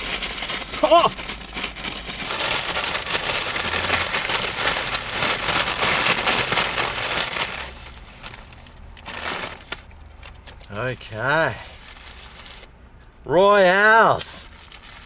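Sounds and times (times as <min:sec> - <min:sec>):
paper bag rustling and crinkling: 0:00.0 - 0:12.7, 0:14.1 - 0:15.0.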